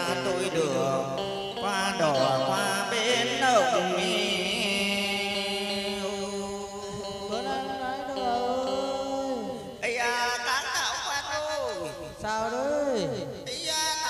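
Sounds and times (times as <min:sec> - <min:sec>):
slow chant-like funeral music: 0:00.0 - 0:14.0.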